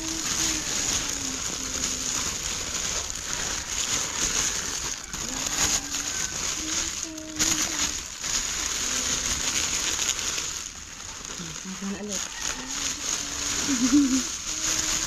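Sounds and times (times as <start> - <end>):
cellophane crinkling: 0.0 - 15.0.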